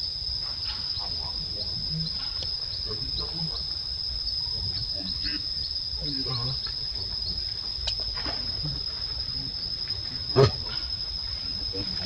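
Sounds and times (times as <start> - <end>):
insect chirps: 0.0 - 12.0
insects trilling: 0.0 - 12.0.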